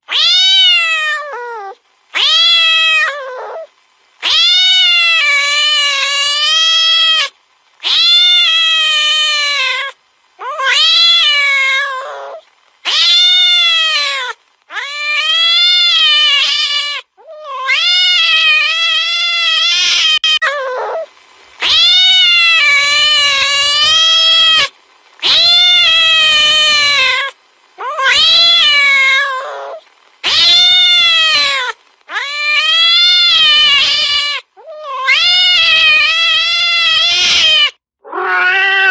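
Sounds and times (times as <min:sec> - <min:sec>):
cat yowling: 0:00.1 - 0:38.9.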